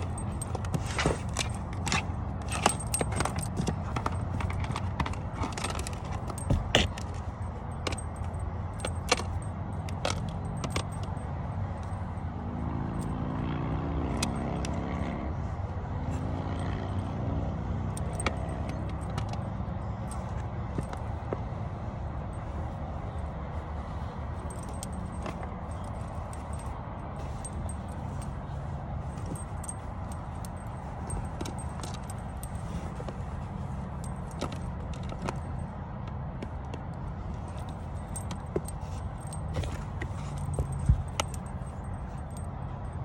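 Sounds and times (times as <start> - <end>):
small clicks and rattles: 0.0 - 15.2, 16.0 - 43.0.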